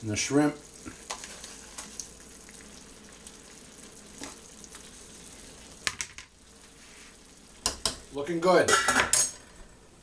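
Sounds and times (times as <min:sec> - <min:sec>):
stew sizzling in a skillet: 0:00.0 - 0:09.8.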